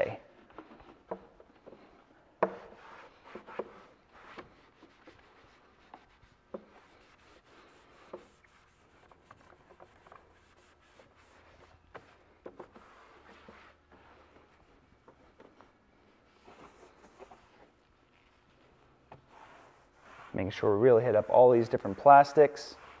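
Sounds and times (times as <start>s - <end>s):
towel rubbing on plastic: 2.6s - 23.0s.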